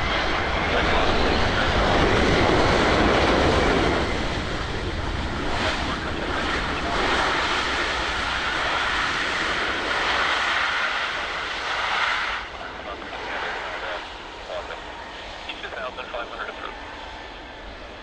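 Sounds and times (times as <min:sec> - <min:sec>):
jet engine roar: 0:00.0 - 0:18.0
jet engine whine: 0:00.0 - 0:18.0.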